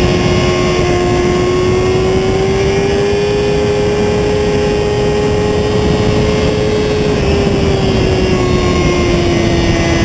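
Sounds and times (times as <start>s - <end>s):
motorcycle engine at high revs: 0.0s - 10.0s
wind rushing: 0.0s - 10.0s.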